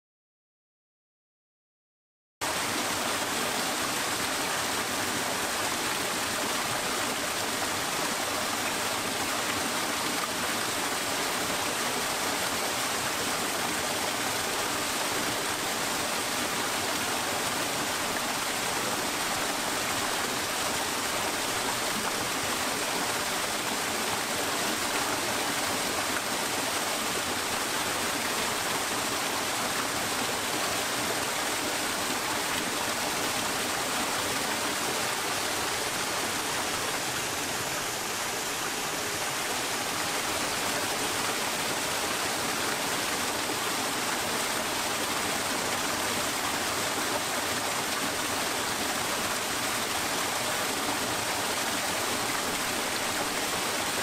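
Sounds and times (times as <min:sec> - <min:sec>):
small waterfall splashing into pool: 0:02.4 - 0:54.0.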